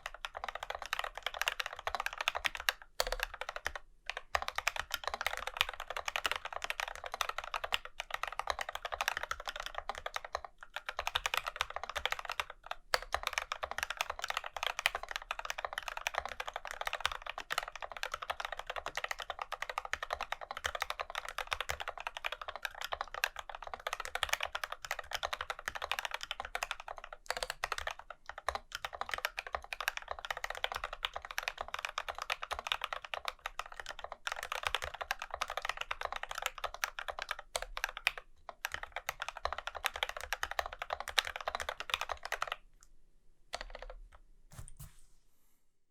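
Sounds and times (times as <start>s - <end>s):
fast mechanical keyboard typing: 0.0s - 42.6s.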